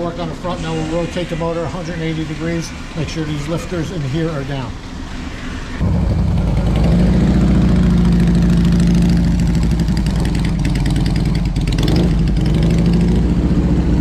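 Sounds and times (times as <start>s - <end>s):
motorcycle engines idling: 2.7s - 14.0s.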